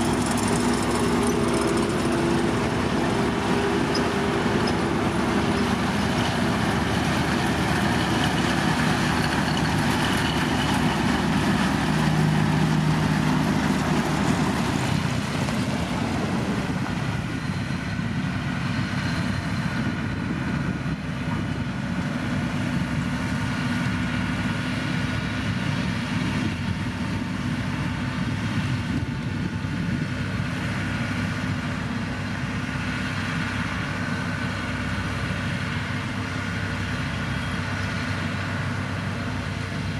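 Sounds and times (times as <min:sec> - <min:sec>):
construction machinery engines: 0:00.0 - 0:39.9.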